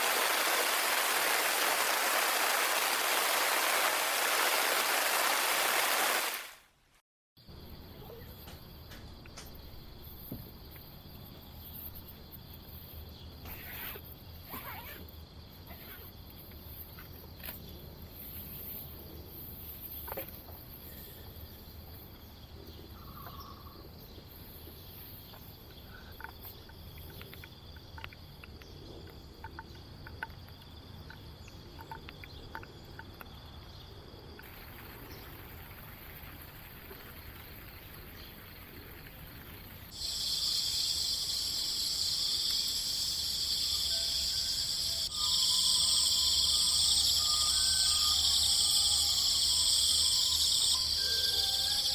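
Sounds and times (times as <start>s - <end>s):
insects chirping: 0.0s - 6.5s, 7.4s - 51.9s.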